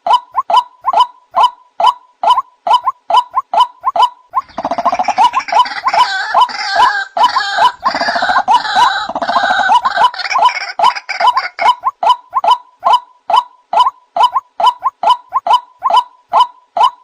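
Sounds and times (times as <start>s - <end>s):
bird hooting notes: 0.0s - 17.0s
chorus of croaking bird calls: 0.0s - 17.0s.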